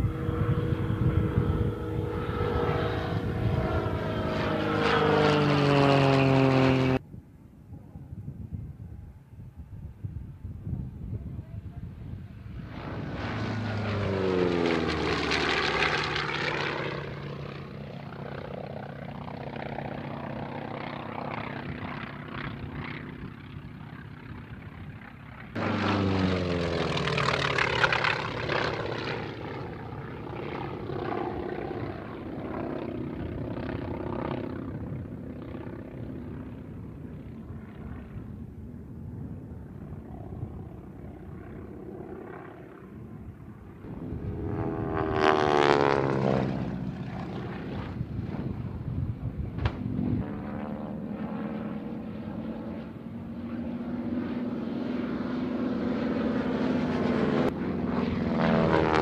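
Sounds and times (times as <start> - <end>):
propeller aircraft flying past: 0.0 - 59.0.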